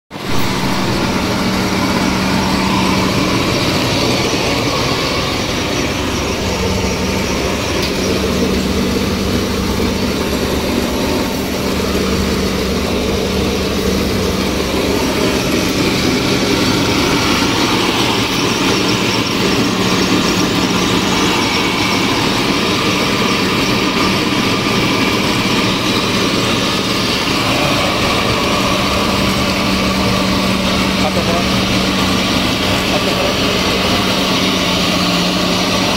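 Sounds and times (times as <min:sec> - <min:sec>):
electric flour mill grinding: 0:00.1 - 0:35.9.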